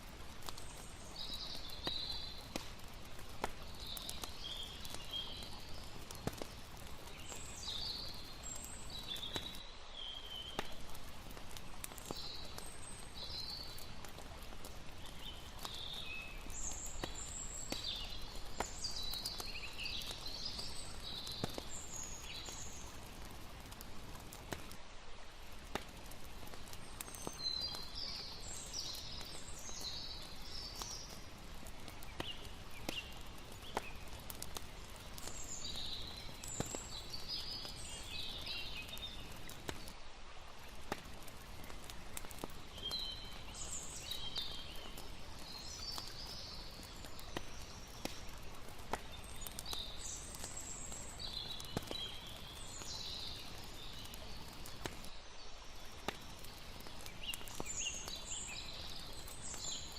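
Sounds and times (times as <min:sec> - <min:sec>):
campfire crackling and popping: 0:00.0 - 0:59.9
birds chirping: 0:00.4 - 0:24.8, 0:26.0 - 0:40.0, 0:40.7 - 0:55.2, 0:55.8 - 0:59.9.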